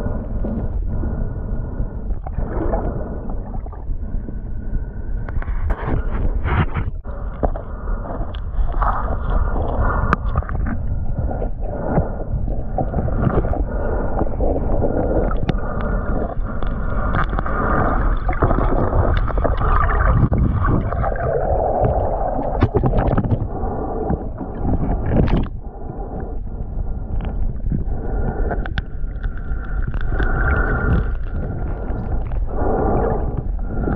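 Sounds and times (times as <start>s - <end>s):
underwater rushing and gurgling: 0.0s - 33.9s.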